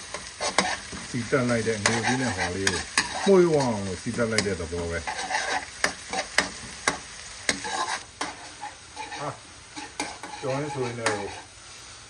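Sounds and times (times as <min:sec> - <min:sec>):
food sizzling in oil: 0:00.0 - 0:12.0
metal spatula scraping a wok: 0:00.1 - 0:03.8, 0:04.4 - 0:11.5.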